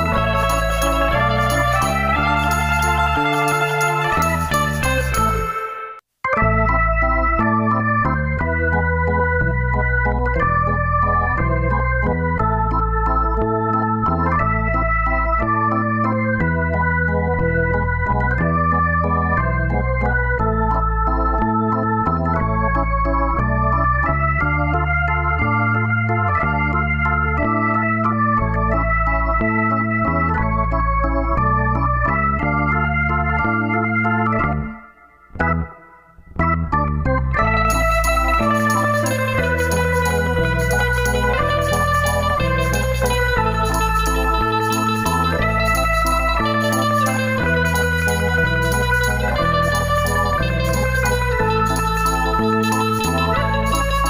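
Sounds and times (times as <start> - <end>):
bass line: 0.0 - 5.7, 6.3 - 54.0
keyboard chords: 0.0 - 54.0.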